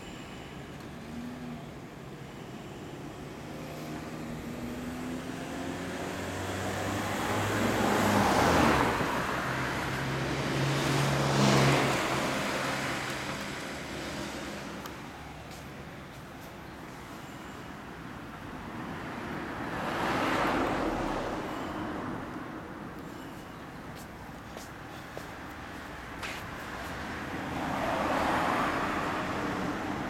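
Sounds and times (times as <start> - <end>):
vehicles driving past: 0.0 - 30.0.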